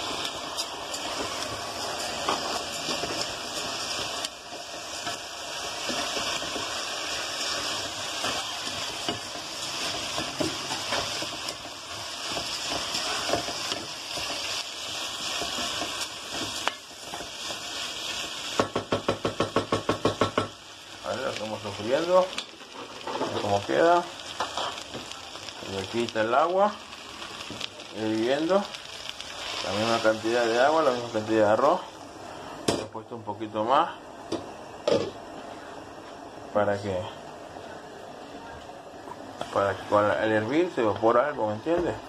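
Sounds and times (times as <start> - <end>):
rice sizzling in hot oil: 0.0 - 37.8, 39.0 - 42.0.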